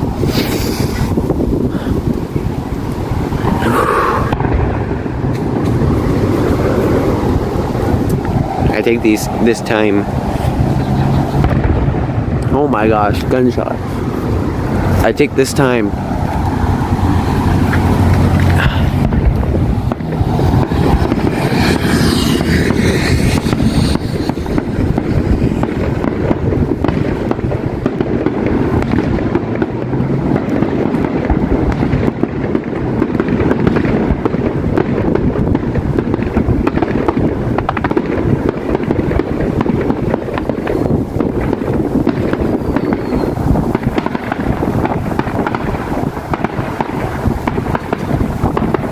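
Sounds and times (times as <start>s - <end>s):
fireworks bangs and crackles: 0.0s - 48.9s
wind rumble on microphone: 0.0s - 48.9s.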